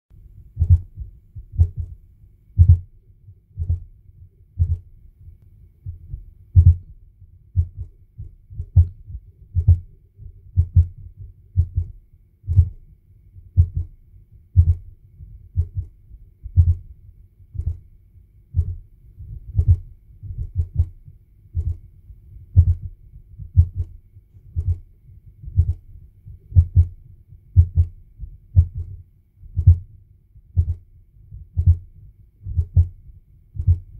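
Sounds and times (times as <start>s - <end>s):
low thumping pulses: 0.3s - 33.9s.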